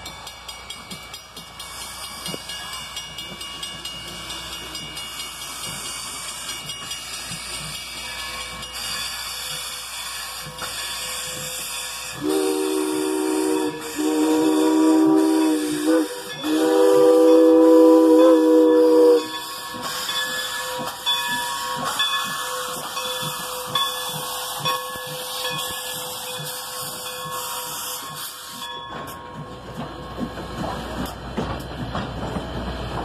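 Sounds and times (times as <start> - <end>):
steam hissing: 1.0 - 33.0.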